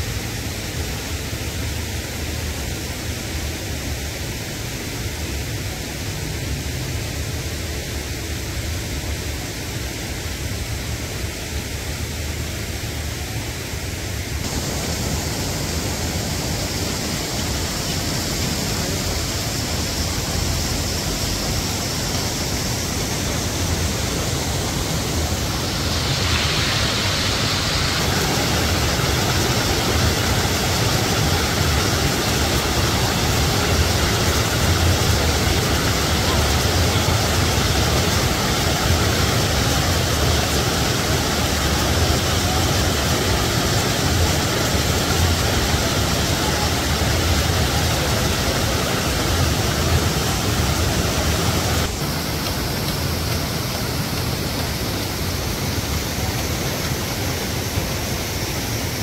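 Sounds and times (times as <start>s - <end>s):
river water cascading over ledges: 0.0s - 59.0s.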